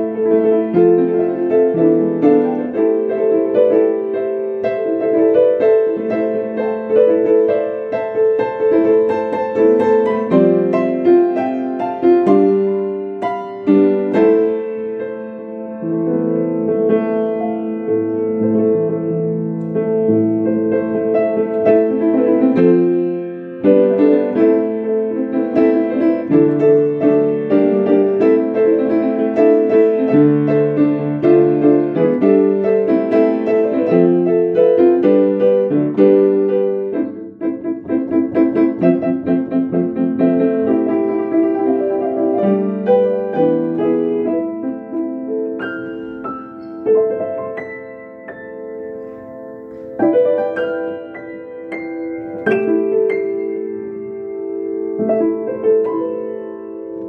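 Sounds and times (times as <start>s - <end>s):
ambient piano music: 0.0s - 57.0s.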